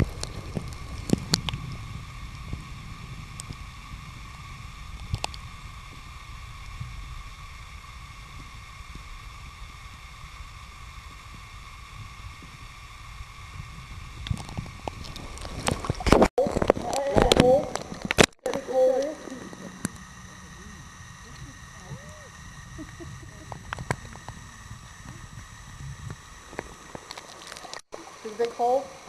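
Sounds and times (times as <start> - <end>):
faint steady whine: 0.0 - 29.0
muffled underwater rumble: 0.0 - 29.0.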